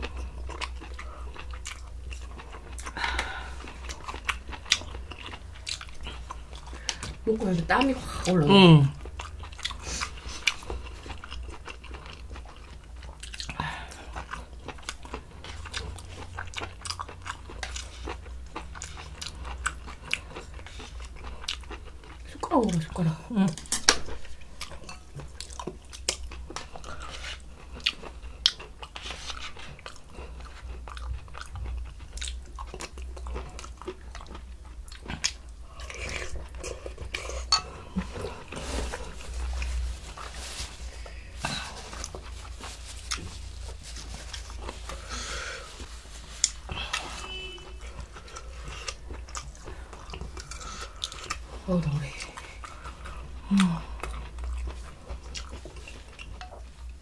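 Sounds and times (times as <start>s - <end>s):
people chewing and crunching: 0.0s - 57.0s.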